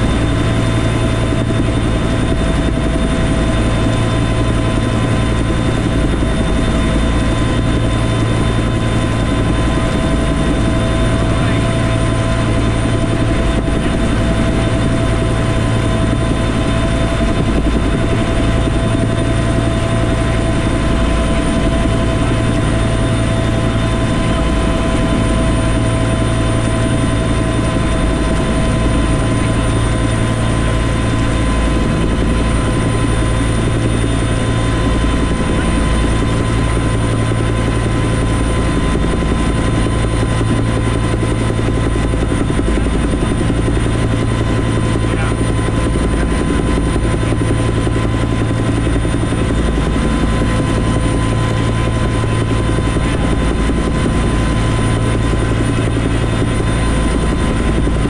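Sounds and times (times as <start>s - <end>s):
helicopter rotor drone: 0.0s - 58.0s
turbine whine: 0.0s - 58.0s.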